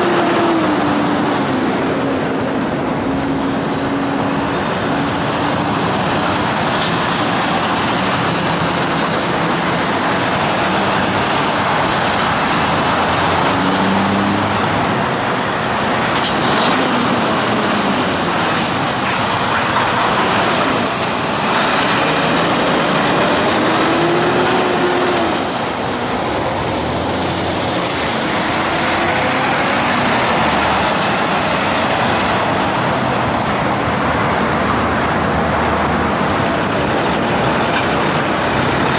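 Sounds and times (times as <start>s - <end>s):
highway traffic passing: 0.0s - 38.9s
truck engines passing: 0.0s - 38.9s.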